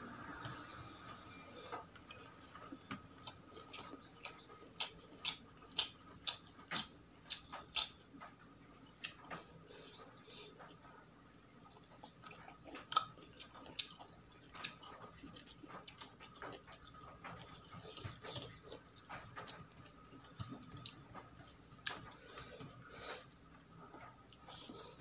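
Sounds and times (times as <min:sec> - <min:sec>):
person chewing food: 0:01.2 - 0:25.0.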